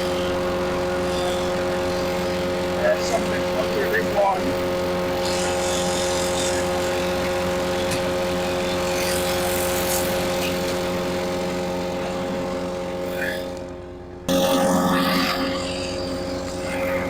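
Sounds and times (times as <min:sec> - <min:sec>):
branches going through chipper: 0:00.0 - 0:13.7
wood chipper engine running: 0:00.0 - 0:17.0.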